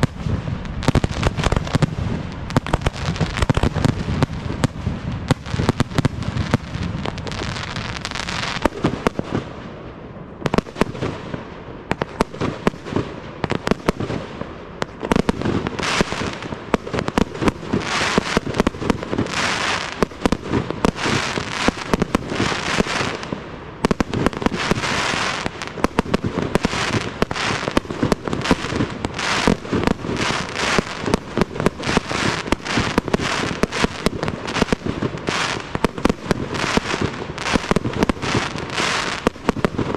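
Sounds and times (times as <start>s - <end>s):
dense firework crackling: 0.0s - 39.9s.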